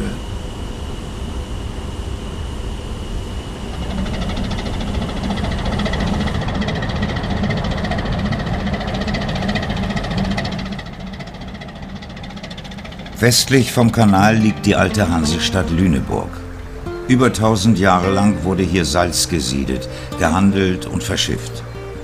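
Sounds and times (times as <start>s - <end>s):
propeller churning water: 0.0s - 22.0s
ship diesel engine drone: 0.0s - 22.0s.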